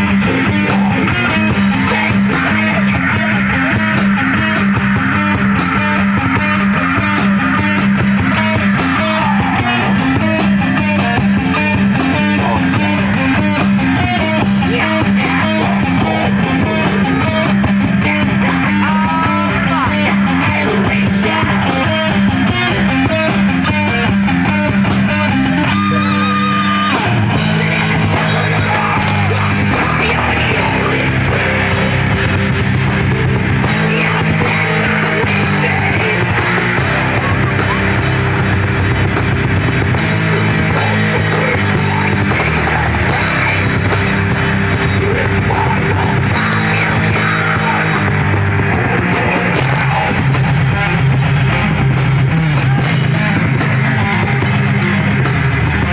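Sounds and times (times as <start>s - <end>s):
distorted electric guitar riffing: 0.0s - 55.9s
heavy metal band playing: 0.0s - 55.9s.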